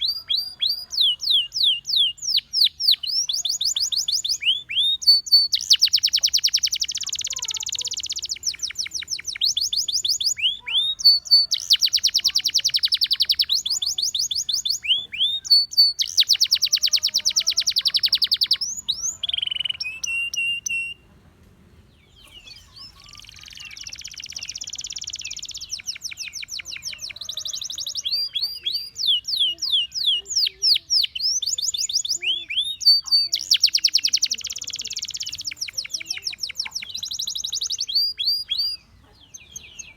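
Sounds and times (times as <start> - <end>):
canary singing trills: 0.0 - 21.1, 22.0 - 39.9.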